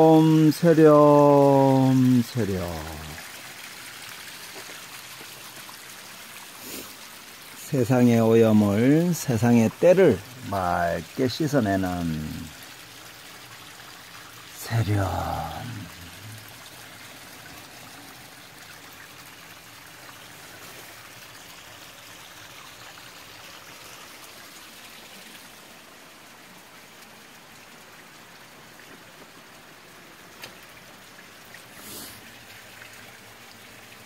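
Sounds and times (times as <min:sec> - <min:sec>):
stream water over rocks: 0:00.0 - 0:34.0.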